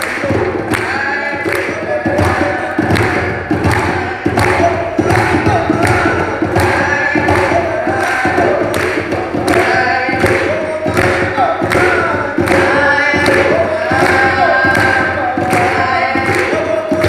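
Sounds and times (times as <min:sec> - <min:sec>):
steady drum beat: 0:00.0 - 0:17.0
voices singing a chant: 0:00.0 - 0:17.0.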